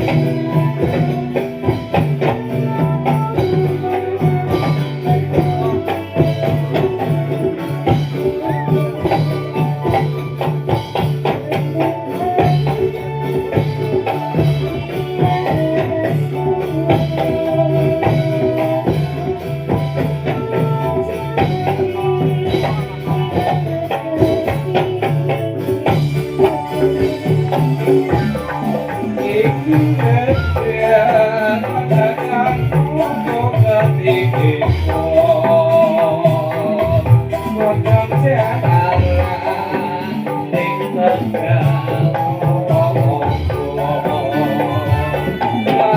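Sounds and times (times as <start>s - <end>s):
drum beat: 0.0s - 45.9s
held melody line: 0.0s - 45.9s
jingling percussion: 0.0s - 45.9s.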